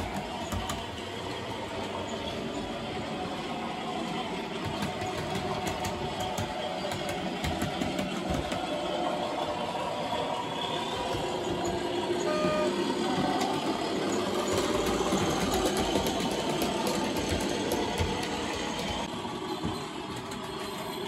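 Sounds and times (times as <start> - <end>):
model train whirring hum: 0.0 - 21.0.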